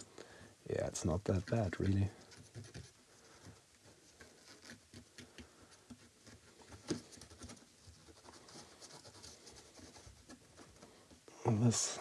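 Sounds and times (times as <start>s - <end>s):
faint scratching and tapping: 0.0s - 12.0s.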